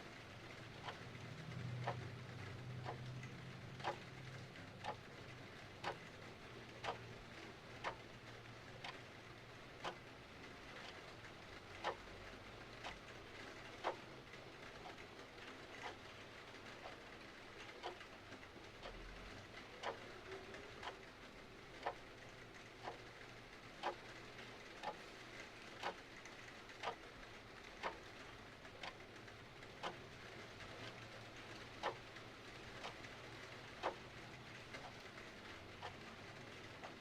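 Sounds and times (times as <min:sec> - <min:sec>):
mechanical clock ticking: 0:00.1 - 0:37.0.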